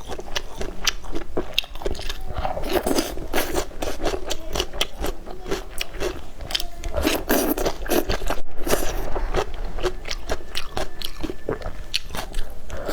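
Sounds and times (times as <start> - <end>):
crunchy eating: 0.0 - 12.9.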